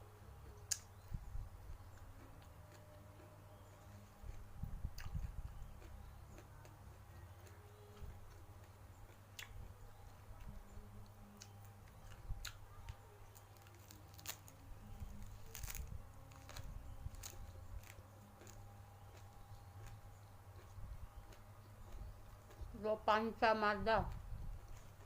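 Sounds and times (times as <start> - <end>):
low steady hum: 0.0 - 25.0
person chewing food: 1.7 - 22.7.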